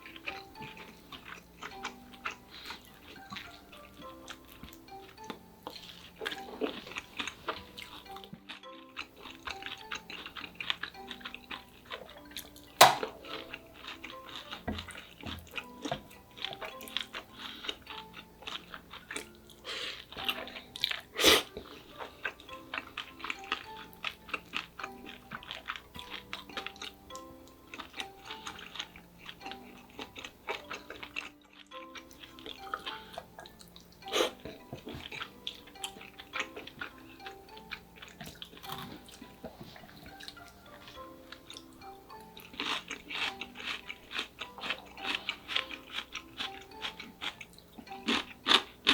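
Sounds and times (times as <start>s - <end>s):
chewing and crunching: 0.0s - 48.9s
soft background music: 0.0s - 48.9s.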